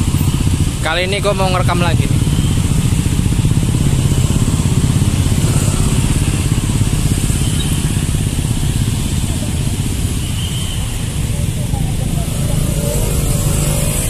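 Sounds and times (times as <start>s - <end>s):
slow dense road traffic: 0.0s - 14.0s.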